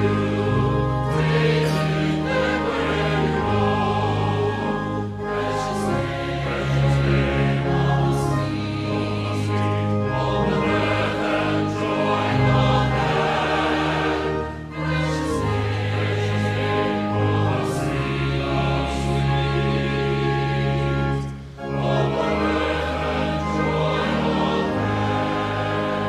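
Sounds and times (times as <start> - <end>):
choir singing sacred music: 0.0 - 26.0.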